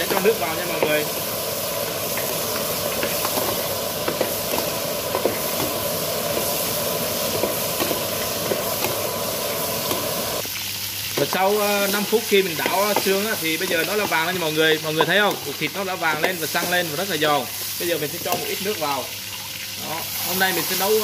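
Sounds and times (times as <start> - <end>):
bones sizzling in oil: 0.0 - 21.0.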